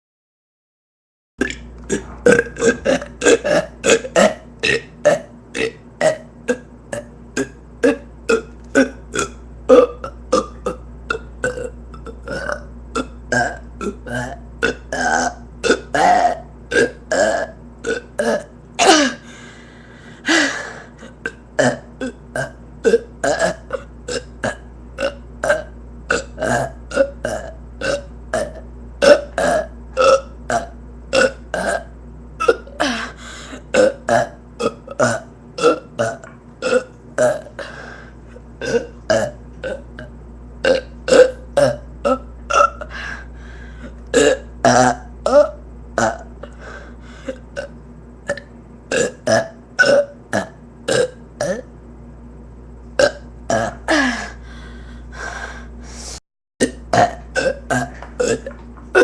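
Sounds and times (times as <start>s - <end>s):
person burping: 1.4s - 19.4s, 20.2s - 38.0s, 38.6s - 43.2s, 43.8s - 47.7s, 48.3s - 51.7s, 53.0s - 54.4s, 56.6s - 59.0s.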